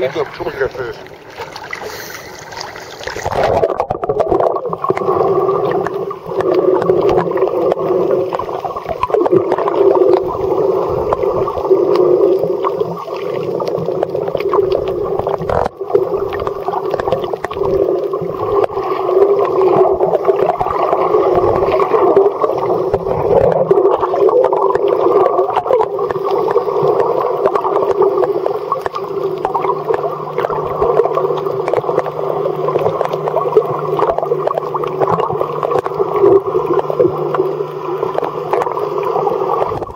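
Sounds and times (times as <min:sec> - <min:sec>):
low steady hum: 0:00.0 - 0:39.9
underwater rush of water: 0:00.0 - 0:39.9.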